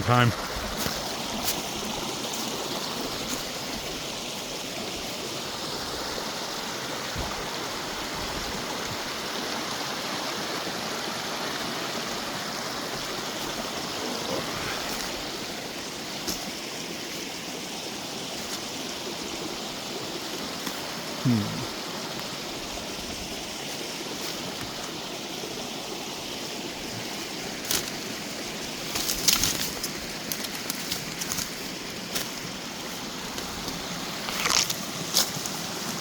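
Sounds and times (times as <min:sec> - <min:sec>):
creek flowing over rocks: 0:00.0 - 0:36.0.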